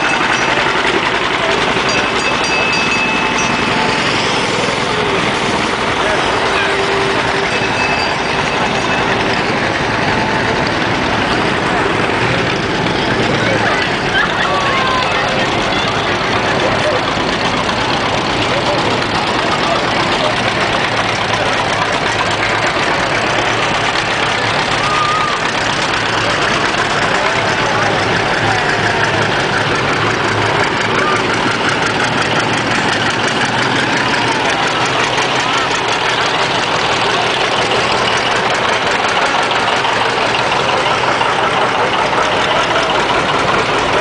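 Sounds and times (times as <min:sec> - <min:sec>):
tractor engines idling: 0:00.0 - 0:44.0.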